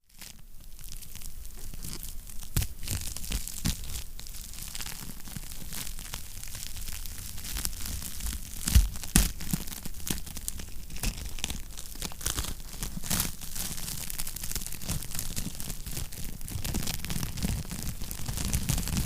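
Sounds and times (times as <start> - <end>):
wood fire crackling: 0.9 - 19.0.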